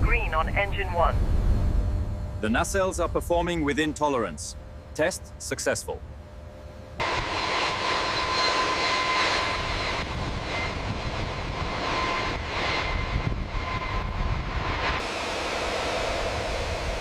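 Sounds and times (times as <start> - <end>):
jet engine running: 0.0 - 17.0.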